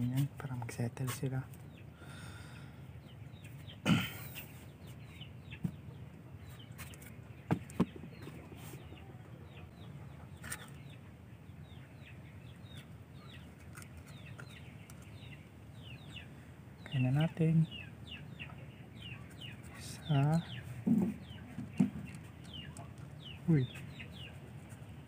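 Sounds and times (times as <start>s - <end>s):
birds chirping in falling peeps: 0.0s - 25.0s.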